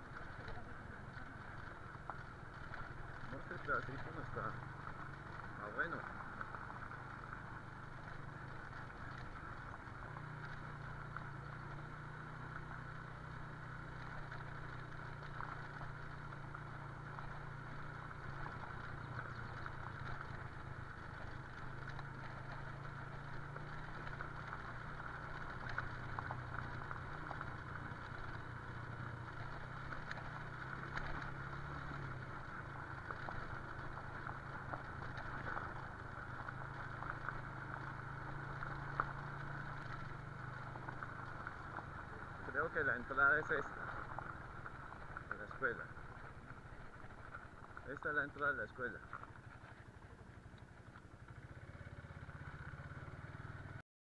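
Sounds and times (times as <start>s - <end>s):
faint ticks: 0.0s - 53.8s
motorcycle engine running: 0.0s - 53.8s.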